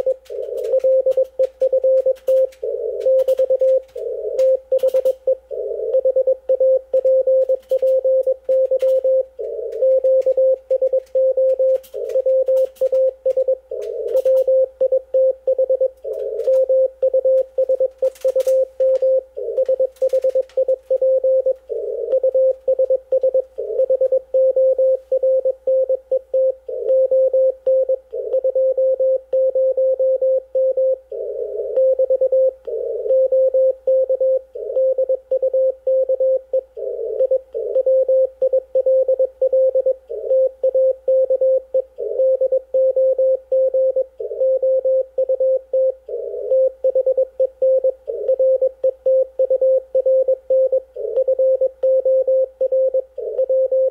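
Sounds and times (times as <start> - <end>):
morse code tone: 0.0 - 53.9.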